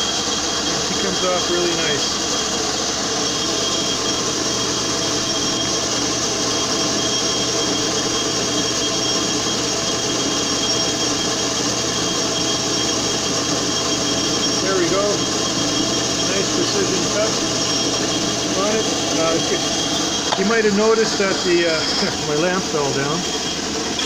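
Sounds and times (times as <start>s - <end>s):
high spindle whine: 0.0s - 24.0s
metal lathe whirring: 0.0s - 24.0s.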